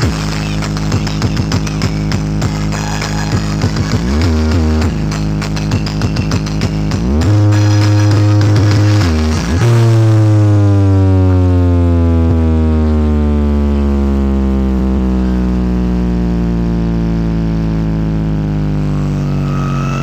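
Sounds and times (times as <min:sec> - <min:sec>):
deep synthesized bass tone: 0:00.0 - 0:20.0.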